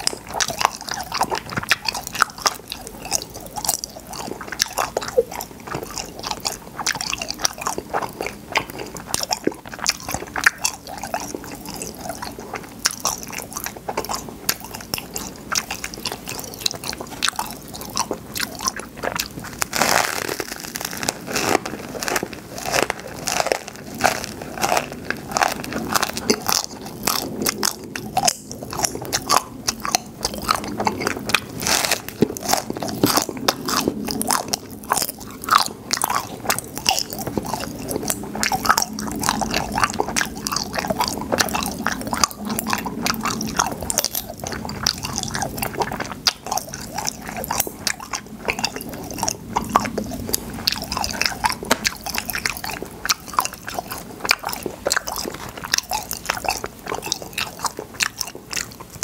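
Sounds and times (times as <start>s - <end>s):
chewing and biting: 0.0s - 59.0s
popping candy crackling: 0.0s - 59.0s.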